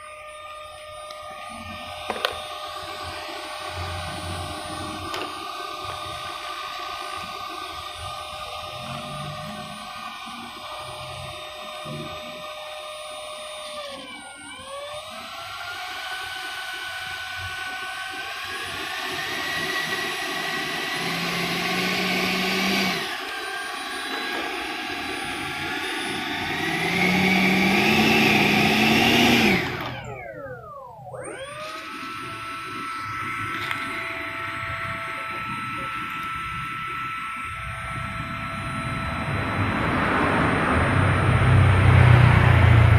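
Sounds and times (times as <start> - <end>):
electric ducted fan whining: 0.0 - 42.9.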